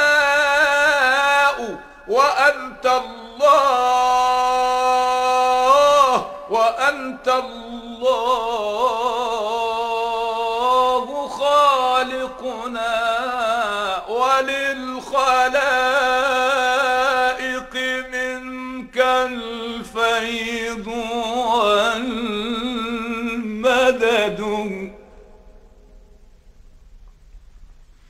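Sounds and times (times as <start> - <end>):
man singing ornamented held notes: 0.0 - 25.4.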